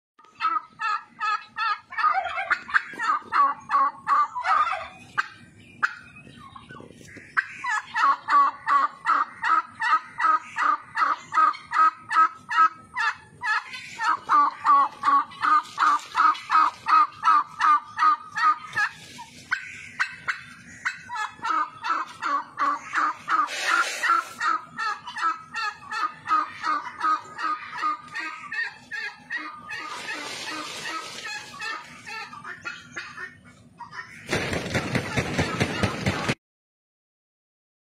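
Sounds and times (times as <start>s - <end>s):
poultry calling: 0.2s - 34.4s.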